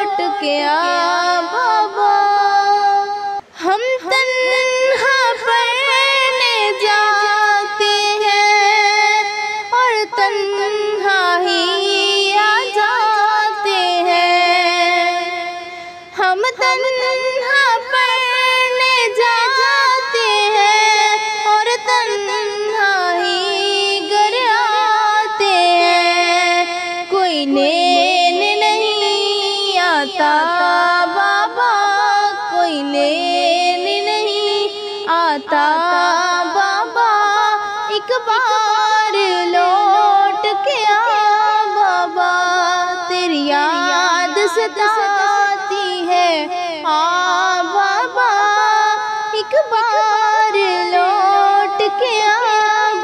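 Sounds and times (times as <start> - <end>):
woman singing with vibrato: 0.0 - 53.0.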